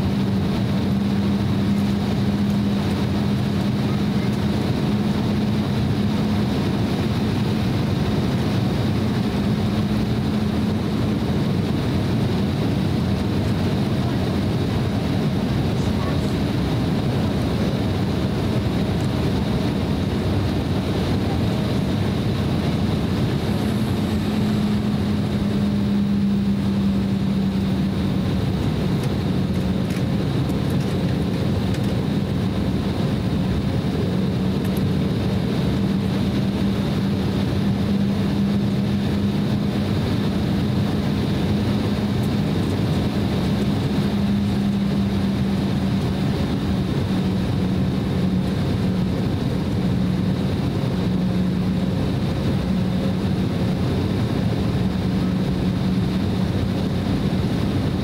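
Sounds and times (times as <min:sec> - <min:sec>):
jet engines running: 0:00.0 - 0:58.0
steady low hum: 0:00.0 - 0:58.0.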